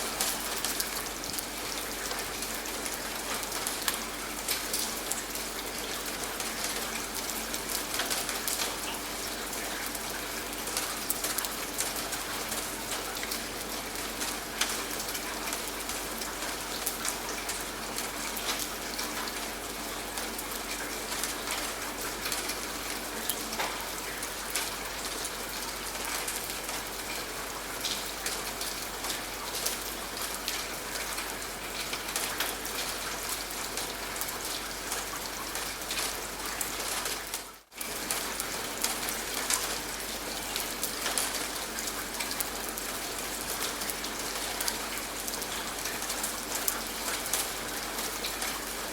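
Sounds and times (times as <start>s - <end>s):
raindrops ticking on a surface: 0.0s - 48.9s
steady rain: 0.0s - 48.9s.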